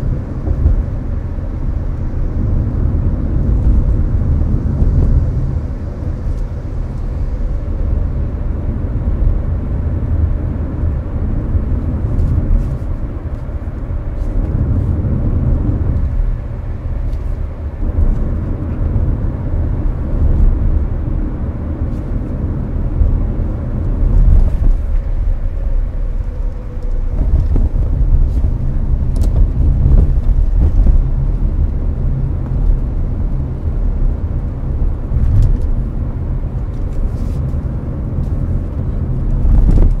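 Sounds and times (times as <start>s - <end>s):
air conditioner blowing: 0.0s - 40.0s
road and tyre rumble: 0.0s - 40.0s.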